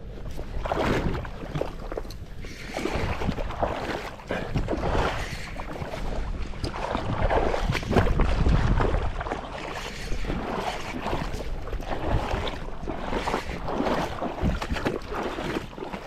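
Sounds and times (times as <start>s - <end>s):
water splashing from wading: 0.0s - 16.0s
wind on microphone: 0.0s - 16.0s.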